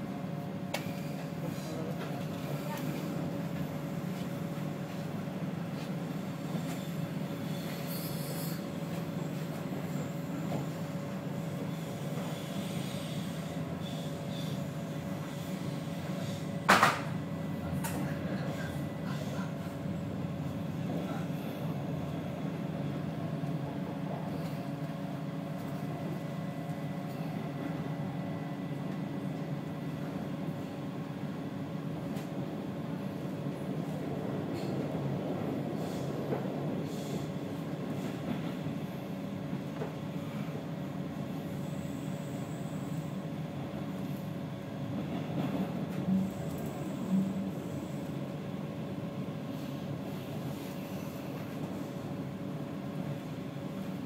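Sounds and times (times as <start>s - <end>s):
train rumble from inside carriage: 0.0s - 54.0s.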